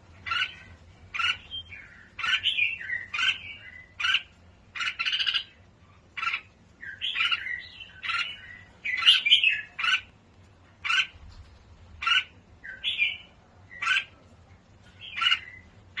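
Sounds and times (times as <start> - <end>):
bird harsh chirping calls: 0.1 - 10.2, 10.8 - 16.0.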